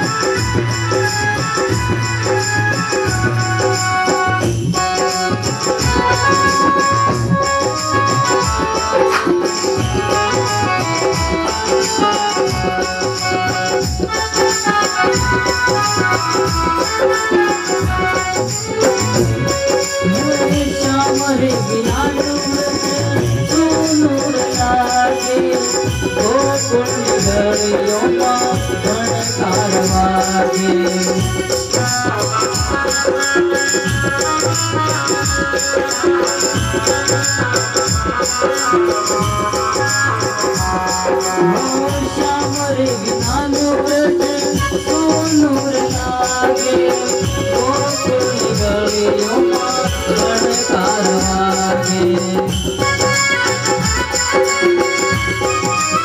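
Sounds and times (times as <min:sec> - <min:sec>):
electronic keyboard melody: 0:00.0 - 0:56.0
hand drum beat: 0:00.0 - 0:56.0
harmonium: 0:00.0 - 0:56.0.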